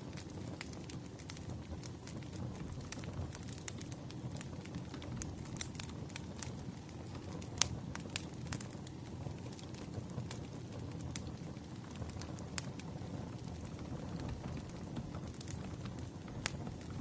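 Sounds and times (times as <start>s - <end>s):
fire popping and snapping: 0.0s - 17.0s
wood fire crackling: 0.0s - 17.0s.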